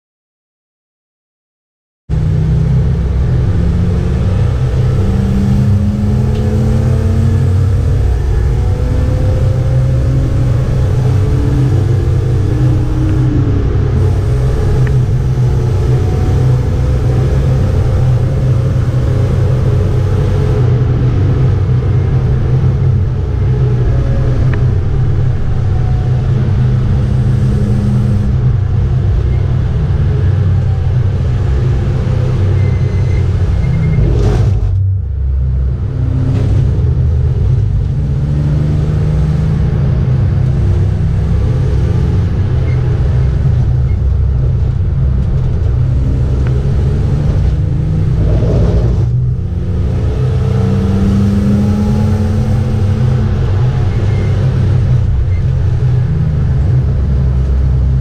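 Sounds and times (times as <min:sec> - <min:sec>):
road and wind noise: 0:02.1 - 0:58.0
car engine pulling: 0:02.7 - 0:58.0.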